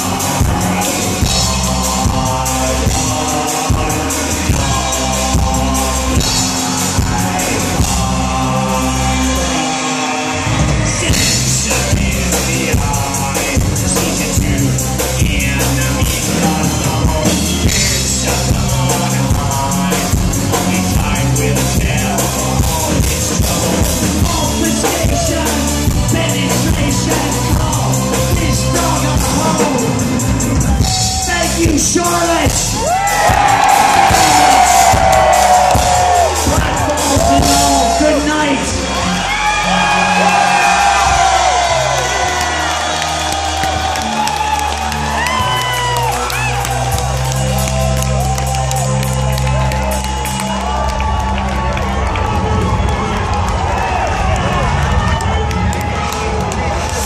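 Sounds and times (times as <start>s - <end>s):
person singing: 0.0s - 48.8s
electro-industrial band playing: 0.0s - 57.0s.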